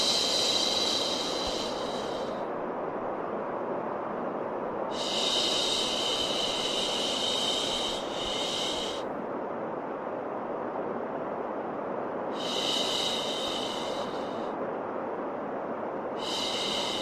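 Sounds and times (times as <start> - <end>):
steady white noise: 0.0 - 17.0.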